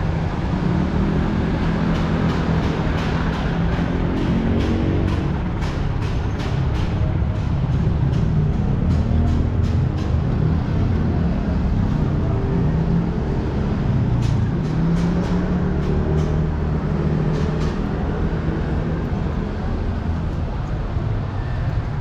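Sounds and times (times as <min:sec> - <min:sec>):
motor vehicle engines running: 0:00.0 - 0:22.0.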